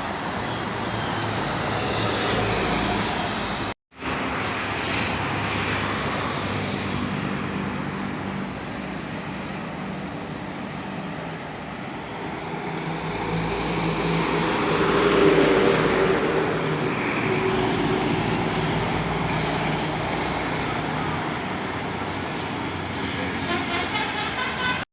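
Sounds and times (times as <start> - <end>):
bus passing by: 0.0 - 24.9
traffic noise: 0.0 - 24.9.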